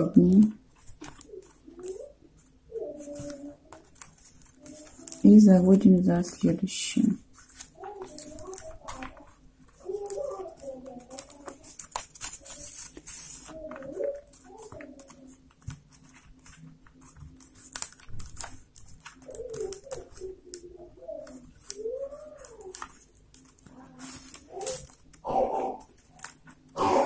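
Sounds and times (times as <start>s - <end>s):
paper tubes clicking and rustling: 0.0s - 27.0s.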